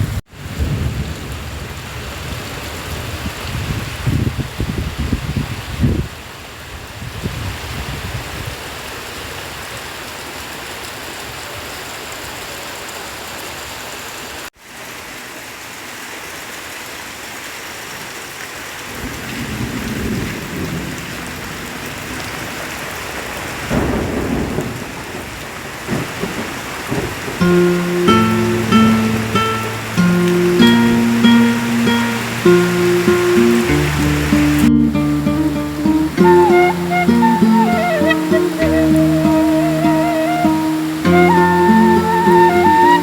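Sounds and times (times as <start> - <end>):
heavy rain falling: 0.0 - 43.0.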